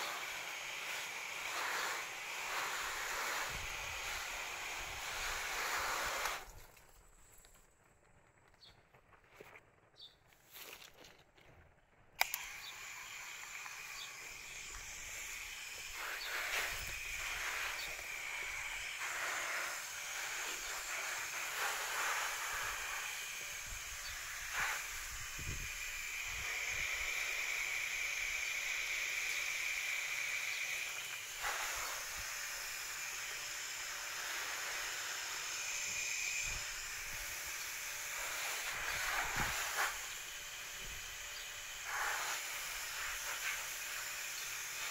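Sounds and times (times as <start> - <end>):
hose nozzle spraying water on plants: 0.0 - 7.1, 12.2 - 44.9.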